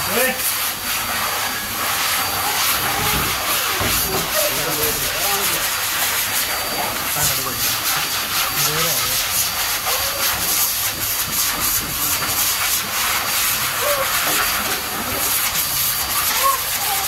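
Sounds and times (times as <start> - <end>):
pet blower dryer blowing air: 0.0 - 17.0.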